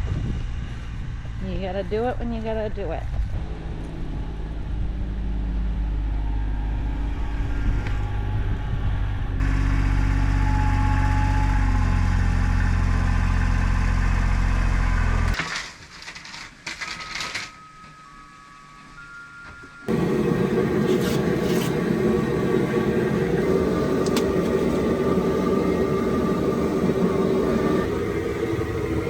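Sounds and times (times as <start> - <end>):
vehicle engine droning: 0.0 - 15.4, 19.9 - 29.0.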